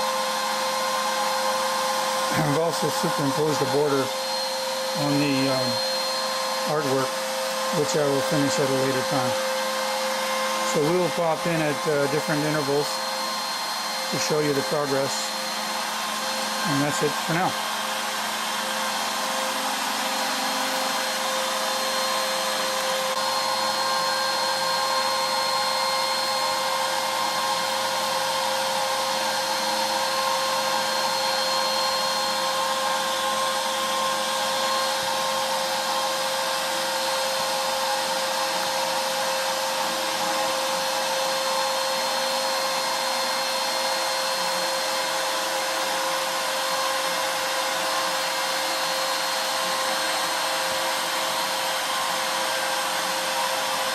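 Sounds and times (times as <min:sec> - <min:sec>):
cnc router spindle whining: 0:00.0 - 0:53.9.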